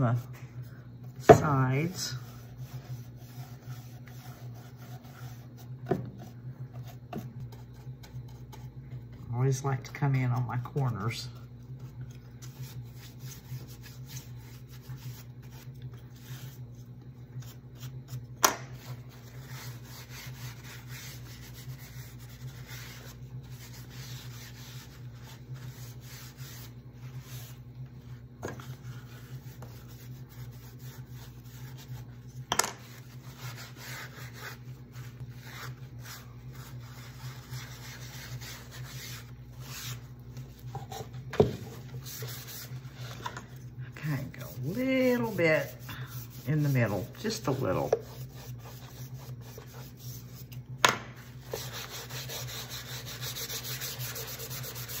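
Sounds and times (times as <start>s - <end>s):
rag rubbing wax on wood: 1.2s - 16.7s, 18.8s - 43.2s, 44.0s - 50.5s, 51.3s - 55.0s.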